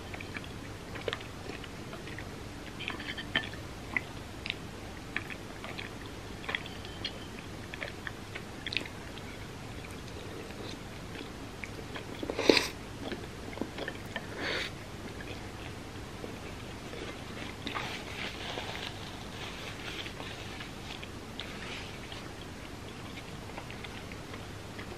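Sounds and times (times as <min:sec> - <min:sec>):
chewing food: 0:00.0 - 0:24.9.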